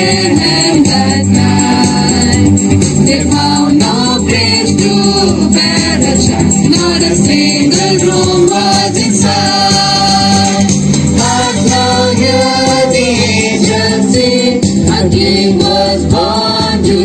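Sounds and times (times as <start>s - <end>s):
group singing a carol: 0.0s - 17.0s.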